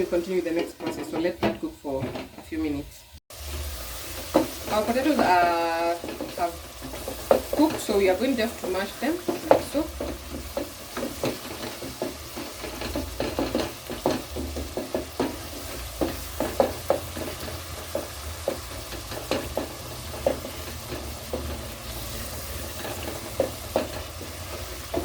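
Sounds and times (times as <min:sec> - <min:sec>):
potatoes being mashed in pot: 0:04.0 - 0:25.0.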